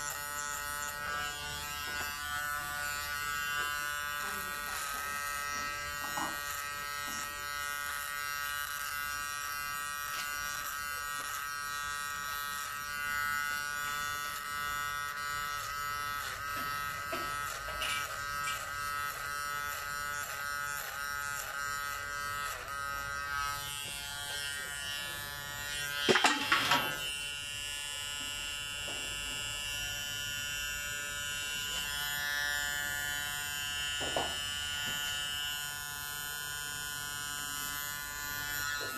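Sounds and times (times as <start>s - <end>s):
electric hair clipper buzzing: 0.0s - 38.9s.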